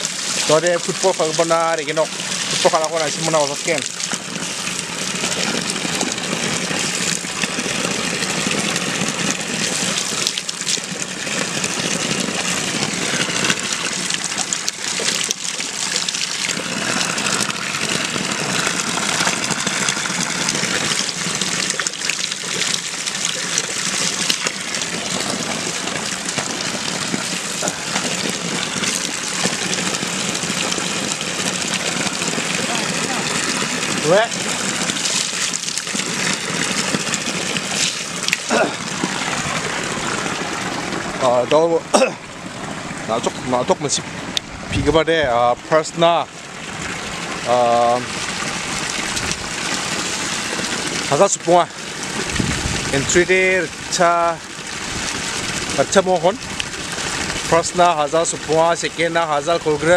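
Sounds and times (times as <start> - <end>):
water splashing on ground: 0.0 - 43.2, 46.5 - 59.9
water pouring from a pipe: 0.0 - 59.9.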